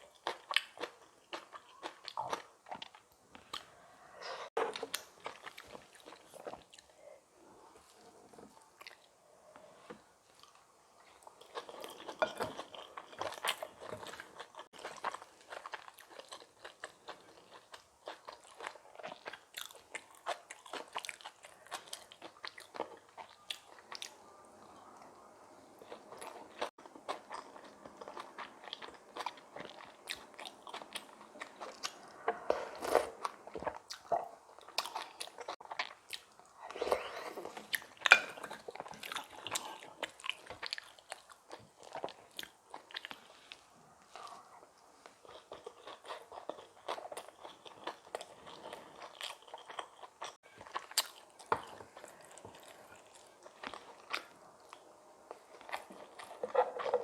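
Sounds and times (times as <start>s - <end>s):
person crunching and chewing food: 0.0s - 9.7s, 10.3s - 57.0s.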